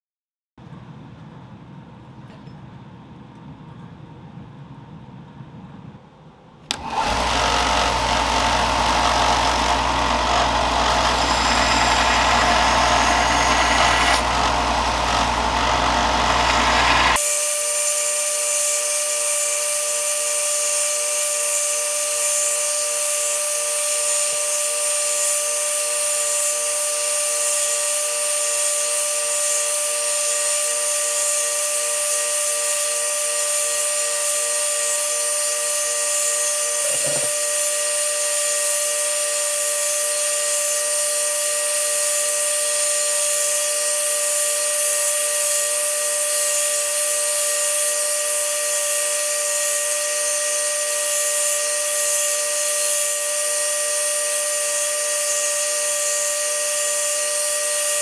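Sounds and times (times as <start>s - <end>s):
power tool running: 6.7s - 58.0s.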